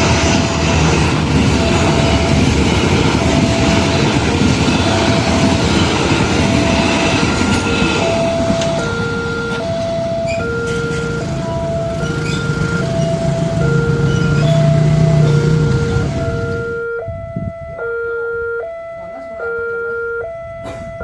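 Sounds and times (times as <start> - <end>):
train rumbling past: 0.0 - 17.7
level crossing two-tone alarm: 0.0 - 21.0.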